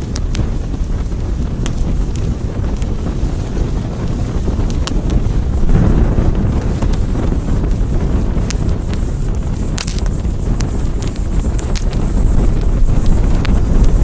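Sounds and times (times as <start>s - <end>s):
fire crackling: 0.0s - 14.0s
fire rumbling: 0.0s - 14.0s.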